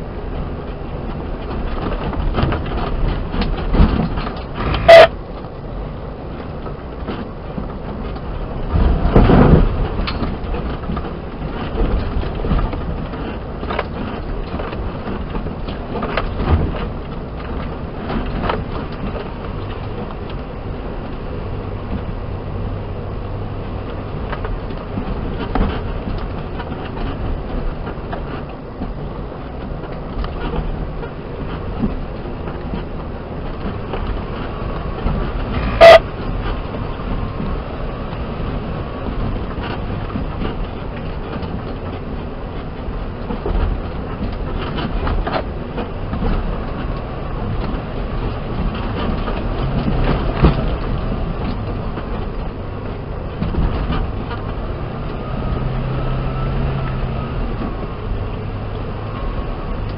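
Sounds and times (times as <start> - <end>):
vehicle engine rumble: 0.0 - 59.9.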